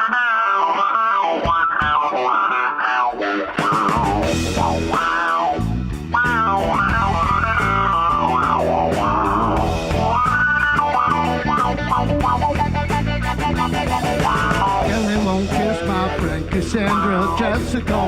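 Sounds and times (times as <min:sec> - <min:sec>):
bass guitar: 0:00.0 - 0:18.0
drums: 0:00.0 - 0:18.0
electric guitar lead: 0:00.0 - 0:18.0.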